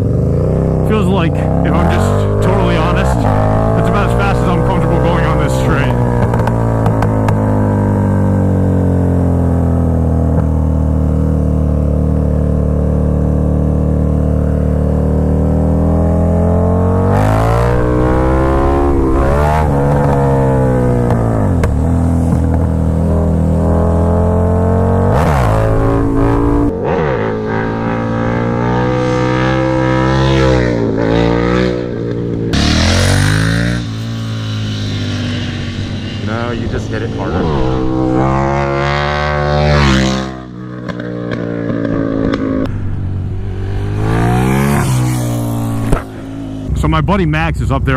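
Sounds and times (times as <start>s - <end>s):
motorcycle engine running: 0.0s - 30.0s, 30.6s - 46.9s.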